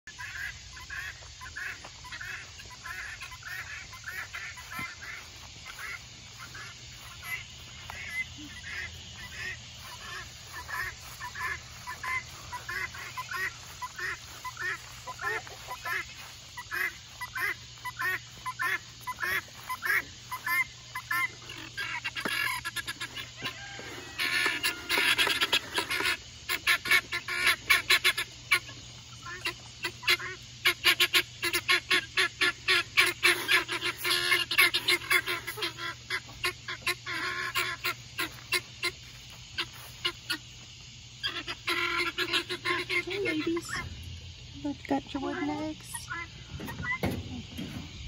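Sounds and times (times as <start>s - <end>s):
guinea fowl calling: 0.1s - 44.4s, 45.2s - 48.0s.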